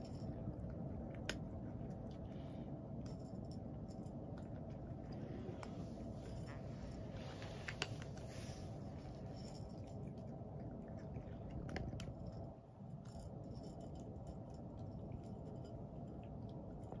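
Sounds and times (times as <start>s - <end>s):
cat crunching dry kibble: 0.0s - 17.0s
fan heater humming: 0.0s - 17.0s.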